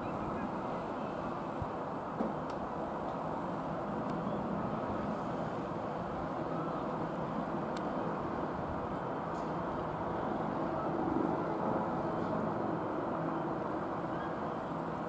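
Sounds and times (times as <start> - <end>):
distant helicopter drone: 0.0 - 15.0.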